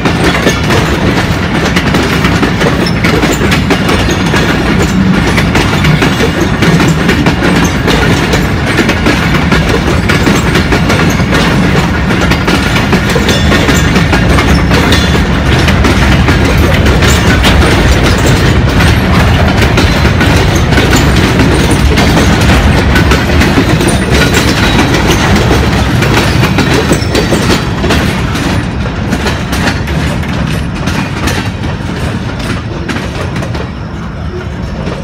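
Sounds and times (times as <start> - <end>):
train wheels rumbling on rails: 0.0 - 35.0
wheels clacking over rail joints: 0.0 - 35.0.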